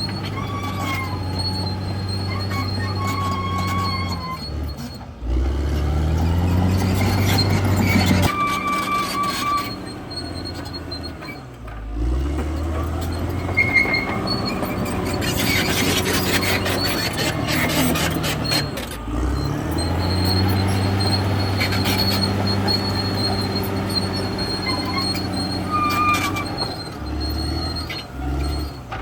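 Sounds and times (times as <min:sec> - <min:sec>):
bulldozer diesel engine working: 0:00.0 - 0:29.0
steel tracks squealing and clanking: 0:00.0 - 0:29.0.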